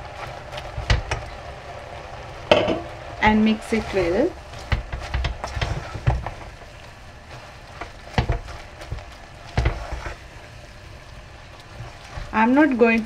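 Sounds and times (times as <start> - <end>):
curry sauce sizzling in pot: 0.0 - 13.0.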